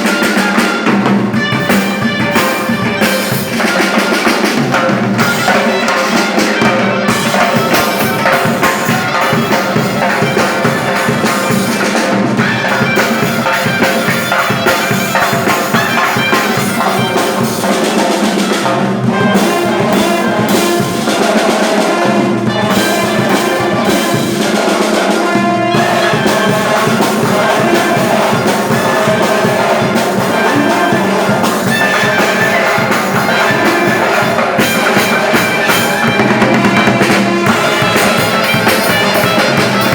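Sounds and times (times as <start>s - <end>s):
drums: 0.0s - 39.9s
wind instruments playing melody: 0.0s - 39.9s.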